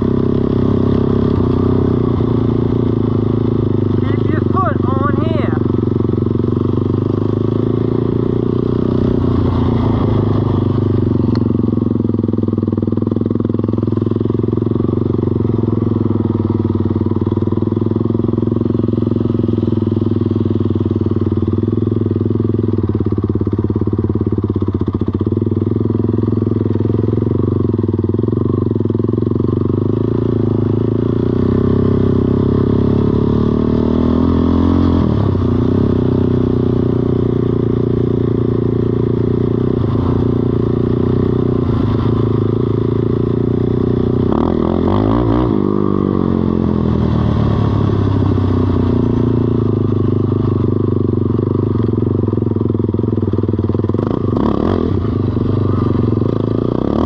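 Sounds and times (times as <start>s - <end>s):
small atv engine running: 0.0s - 57.0s.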